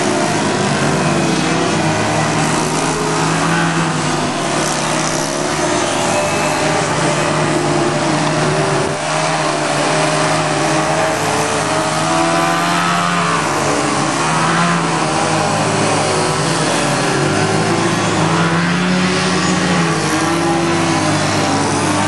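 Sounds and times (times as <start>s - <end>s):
model airplane motor and propeller: 0.0s - 22.0s.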